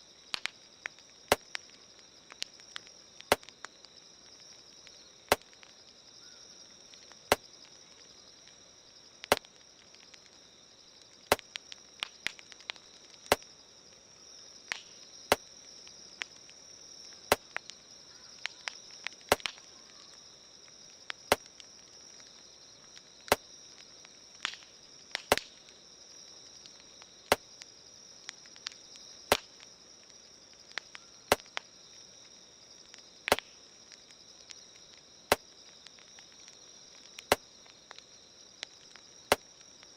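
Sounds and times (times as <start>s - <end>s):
campfire crackling and popping: 0.0s - 39.9s
insects chirring: 0.0s - 39.9s.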